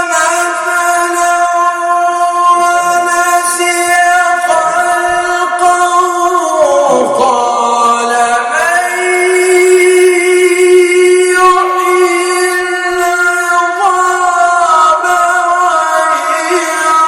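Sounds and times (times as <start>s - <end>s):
man chanting a long ornamented note: 0.0s - 17.0s.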